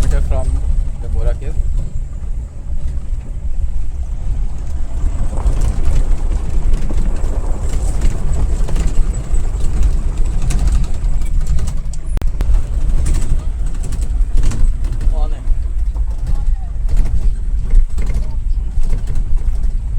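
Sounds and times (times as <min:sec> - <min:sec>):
car engine and road noise: 0:00.0 - 0:19.9
light rattles: 0:00.0 - 0:19.9.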